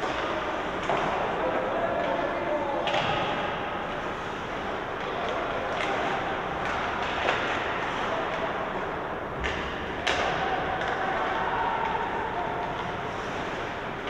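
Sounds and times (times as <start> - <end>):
hockey sticks and puck knocks: 0.0 - 14.0
steady hall noise: 0.0 - 14.0.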